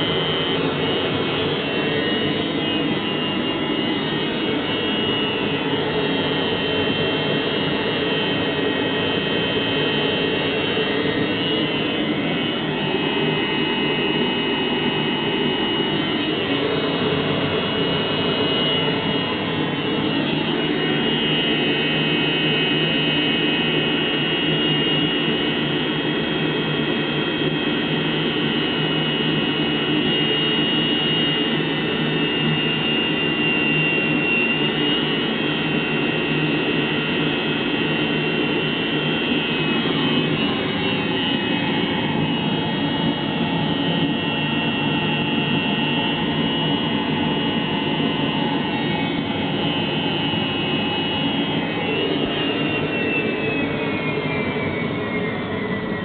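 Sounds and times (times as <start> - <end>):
heater burner and fan roar: 0.0 - 56.0
high whine: 0.0 - 56.0.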